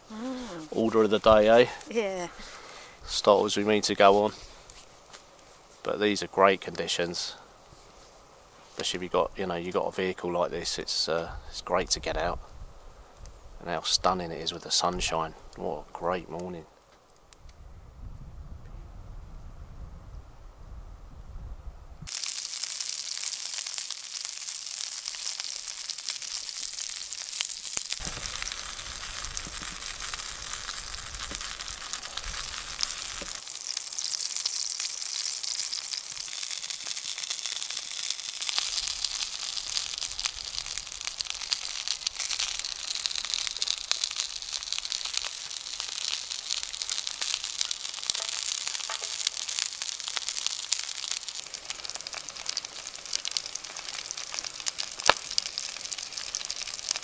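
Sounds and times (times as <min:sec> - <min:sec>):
sausages sizzling in a frying pan: 0:00.0 - 0:15.8, 0:22.1 - 0:57.0.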